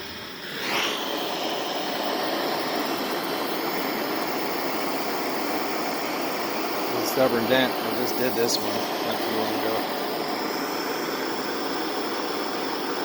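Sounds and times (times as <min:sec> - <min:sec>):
torch flame roaring: 0:00.0 - 0:13.0.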